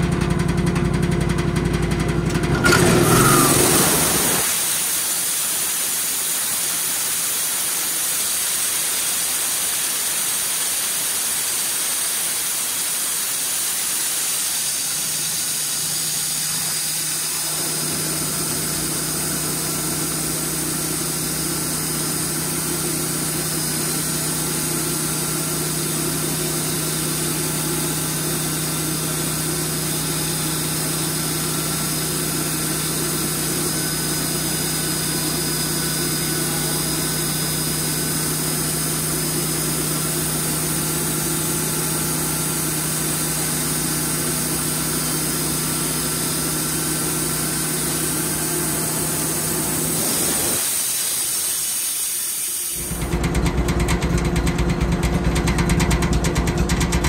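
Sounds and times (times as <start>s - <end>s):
sawmill engine running steadily: 0.0s - 57.0s.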